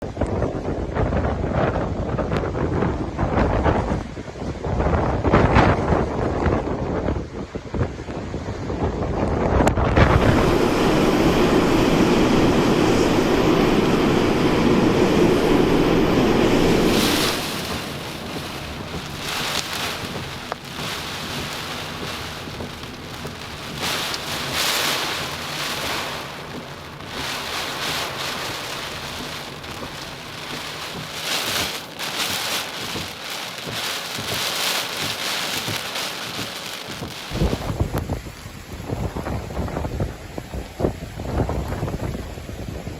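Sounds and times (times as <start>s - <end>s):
low wind rumble: 0.0s - 42.9s
strong wind gusts: 0.0s - 42.9s
rain: 8.0s - 42.9s.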